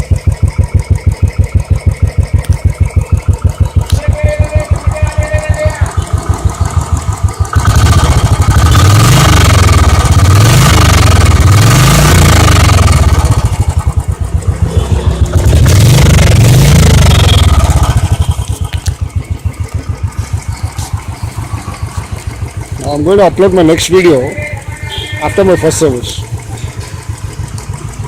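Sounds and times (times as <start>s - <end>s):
motorcycle engine idling and revving: 0.0s - 28.0s.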